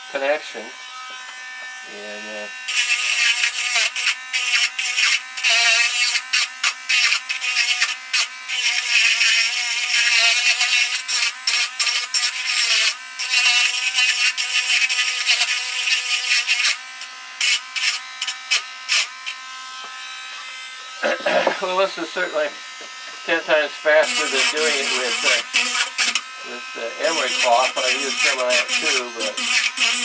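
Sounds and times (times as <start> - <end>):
bit grinding metal: 0.2 - 30.0
rotary tool whining: 0.8 - 30.0.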